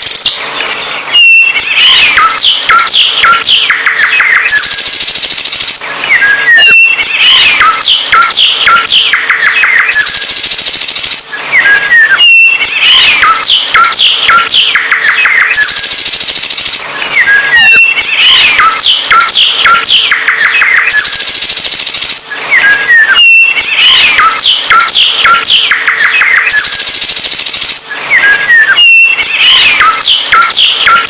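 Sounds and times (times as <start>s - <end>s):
songbird singing: 0.0s - 16.2s, 16.8s - 31.0s.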